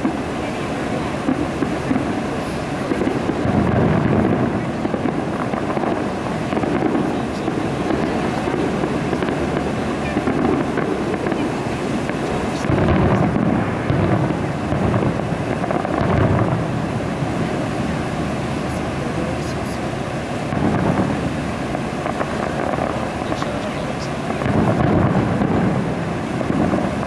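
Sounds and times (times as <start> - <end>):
distant fireworks booms: 0.0 - 27.0
steady rumble: 0.0 - 27.0.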